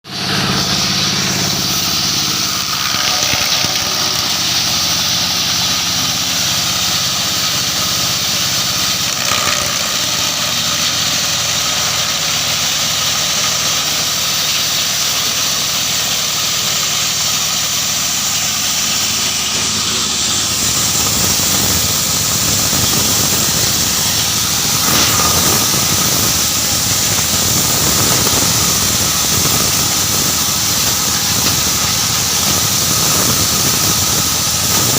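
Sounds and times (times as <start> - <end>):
crusher machine motor hum: 0.1 - 34.9
loud hiss: 0.1 - 34.9.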